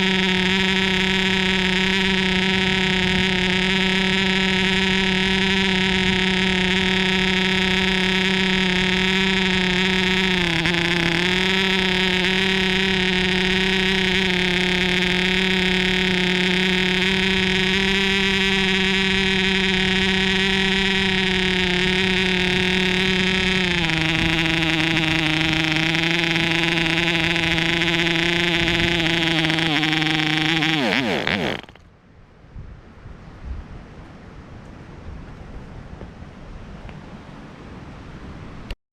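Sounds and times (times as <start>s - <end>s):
model airplane engine buzzing: 0.0s - 31.8s.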